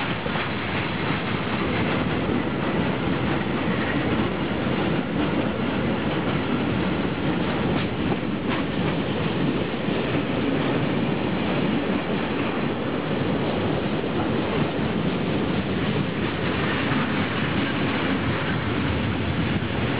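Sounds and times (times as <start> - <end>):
train wheels rumbling on rails: 0.0 - 19.9
wheels clacking over rail joints: 0.0 - 19.9.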